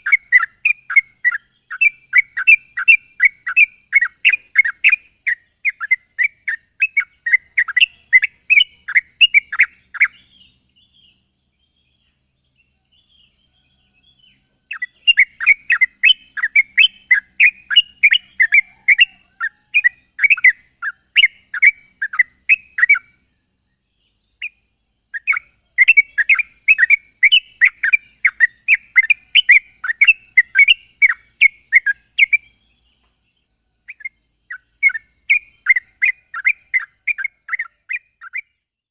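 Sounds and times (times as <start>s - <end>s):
bird chirping in rapid runs: 0.0s - 38.9s.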